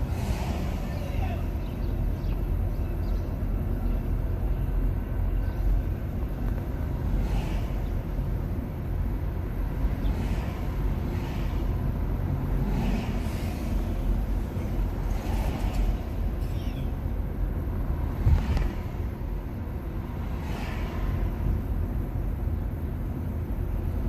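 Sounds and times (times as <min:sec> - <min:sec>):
road and tyre rumble: 0:00.0 - 0:24.0.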